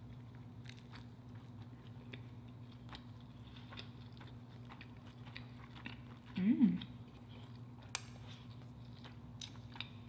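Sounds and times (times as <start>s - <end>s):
chewing soft taco: 0.0s - 10.0s.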